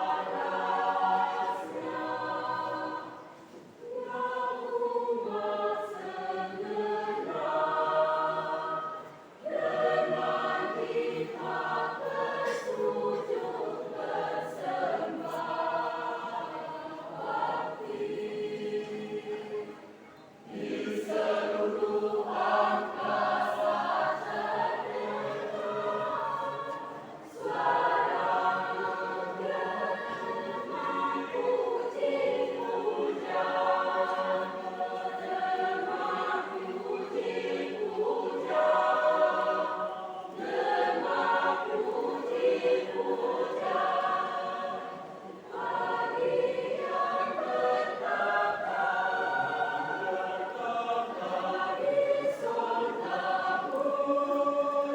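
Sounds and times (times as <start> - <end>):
choir singing: 0.0 - 54.9.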